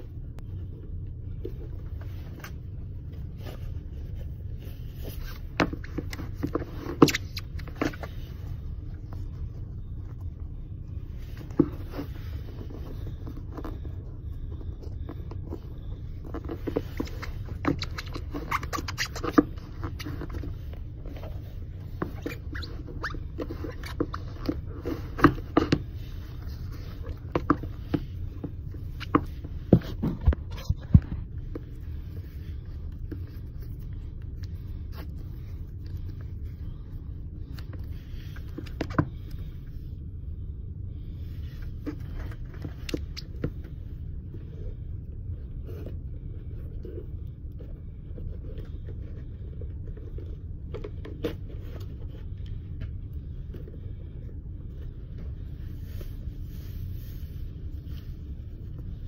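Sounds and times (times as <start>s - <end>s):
rustles and clicks of tying shoes: 0.0s - 40.1s, 40.7s - 59.0s
steady low rumble: 0.0s - 59.0s.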